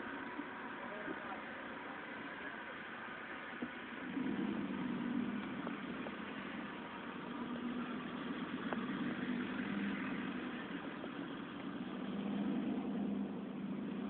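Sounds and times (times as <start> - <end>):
car engine running: 0.0 - 14.0
tyre and road noise: 0.0 - 14.0.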